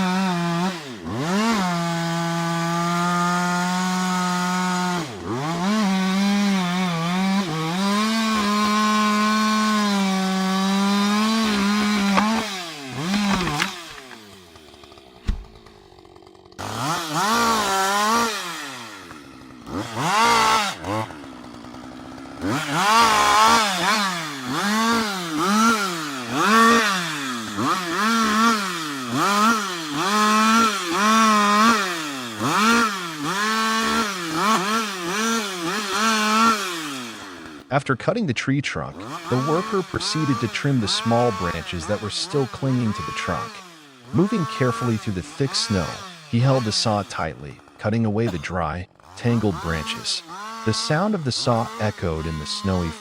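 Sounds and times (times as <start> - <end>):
chainsaw revving: 0.0 - 37.8, 38.8 - 53.0.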